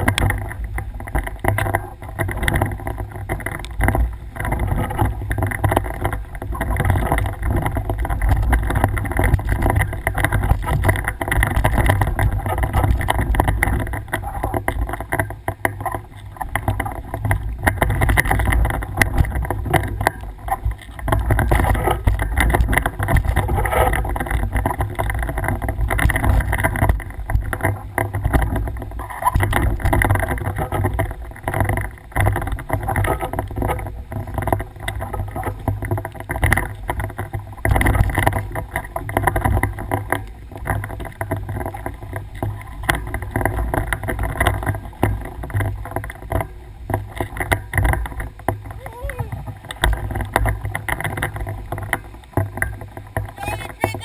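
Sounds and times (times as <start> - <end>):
bike knocks and rattles: 0.0 - 53.4
wind rumble on microphone: 0.0 - 54.0.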